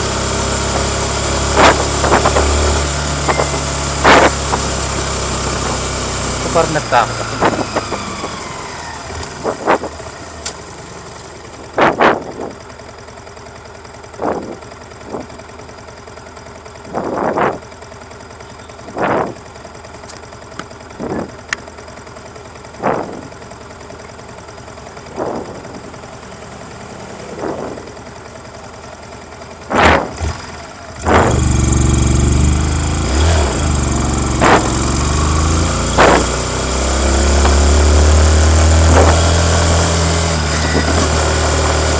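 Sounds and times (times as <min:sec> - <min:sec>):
motorcycle accelerating: 0:00.0 - 0:41.9
motorcycle engine throttle blips: 0:00.0 - 0:41.9.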